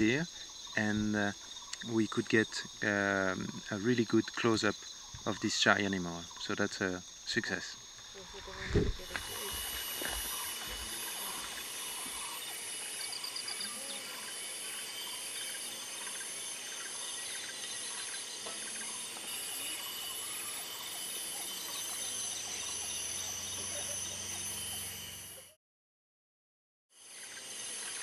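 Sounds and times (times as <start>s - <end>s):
insect chorus pulsing: 0.0s - 25.6s, 27.0s - 28.0s.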